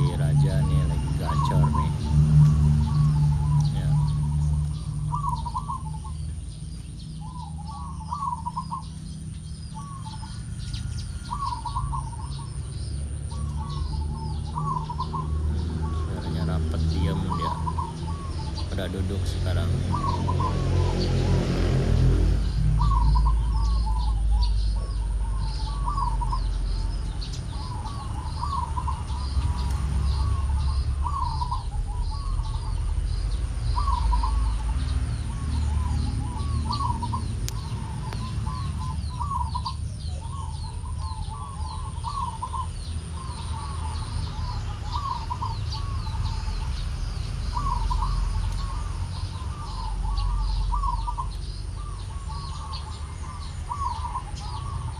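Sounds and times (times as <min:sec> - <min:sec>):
dove cooing: 0:00.0 - 0:54.9
small birds chirping faintly: 0:00.0 - 0:54.9
steady low rumble: 0:00.0 - 0:54.9.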